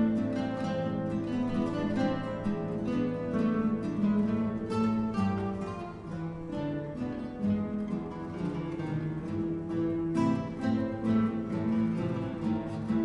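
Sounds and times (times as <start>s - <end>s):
acoustic guitars playing: 0.0s - 13.0s.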